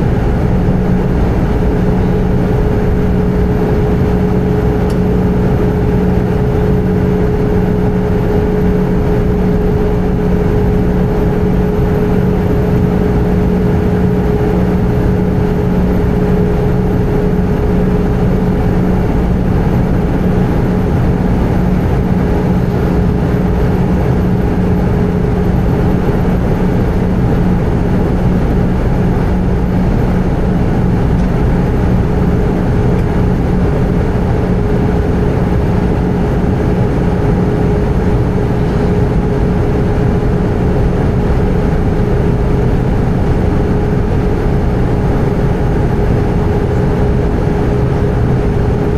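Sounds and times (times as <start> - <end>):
airplane cabin engine noise: 0.0 - 48.9.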